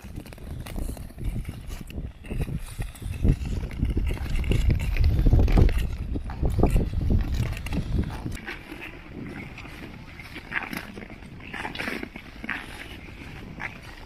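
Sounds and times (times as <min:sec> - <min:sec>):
skates scraping over snowy ice: 0:00.0 - 0:14.0
wind rumble on microphone: 0:00.0 - 0:14.0.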